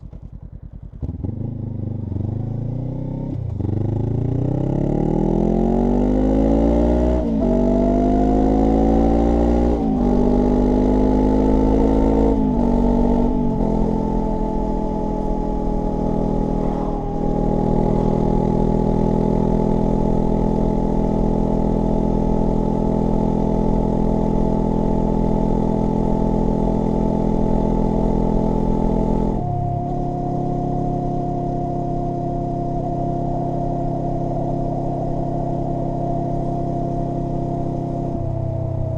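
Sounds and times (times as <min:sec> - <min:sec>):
motorcycle engine accelerating: 0:00.0 - 0:38.9
tyre road noise: 0:05.3 - 0:38.9.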